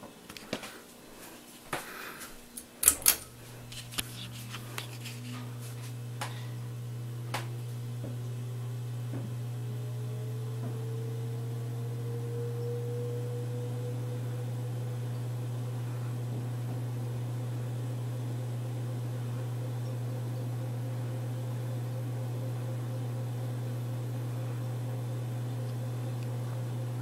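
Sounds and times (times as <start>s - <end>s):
fan motor hum: 0.0s - 27.0s
ceiling fan clicks: 1.7s - 6.4s, 7.2s - 9.3s, 10.2s - 15.5s, 16.4s - 27.0s
fan whine rising in pitch: 3.7s - 27.0s.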